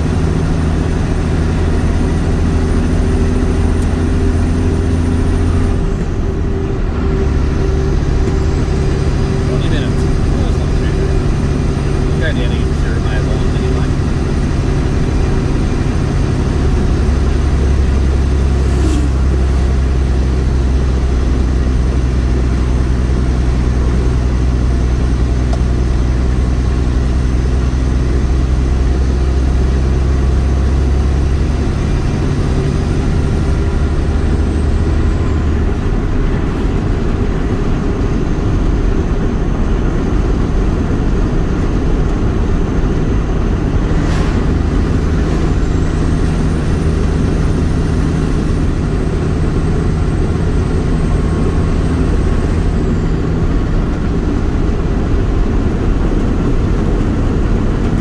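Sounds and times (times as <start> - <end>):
road rumble: 0.0 - 58.0
truck engine droning: 0.0 - 58.0.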